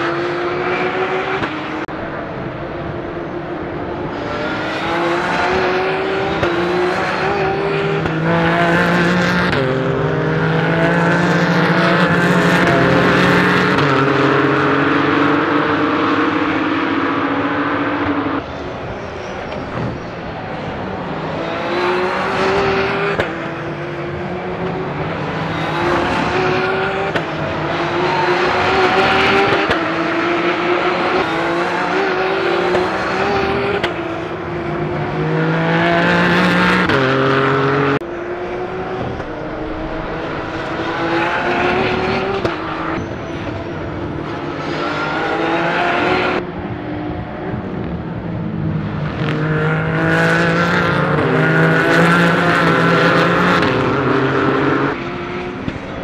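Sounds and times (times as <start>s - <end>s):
race car engines at high revs: 0.0s - 56.0s.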